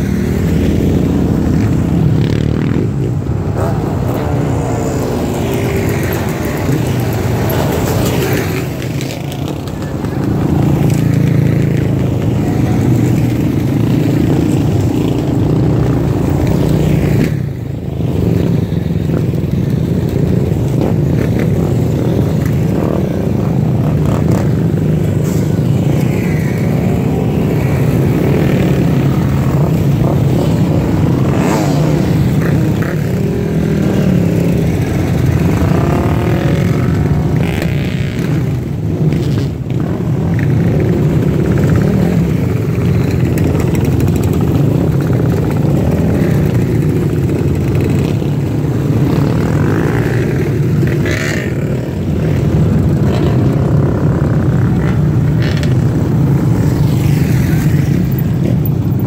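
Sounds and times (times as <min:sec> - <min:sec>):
quad bikes and dirt bikes passing: 0:00.0 - 0:59.0.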